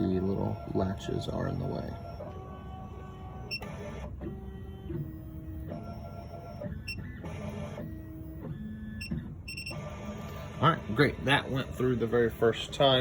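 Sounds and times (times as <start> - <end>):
machine motors whining: 0.0 - 13.0.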